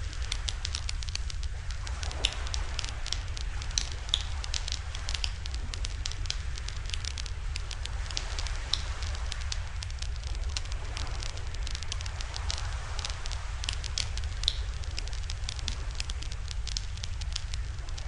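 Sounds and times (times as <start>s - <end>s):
steady low rumble: 0.0s - 18.0s
wood fire crackling and popping: 0.0s - 18.0s.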